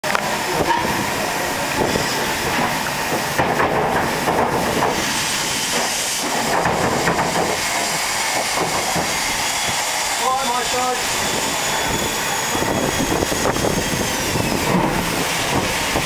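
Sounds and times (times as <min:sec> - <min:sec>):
hiss of steam: 0:00.2 - 0:16.0
locomotive knocking on rails: 0:00.2 - 0:16.0.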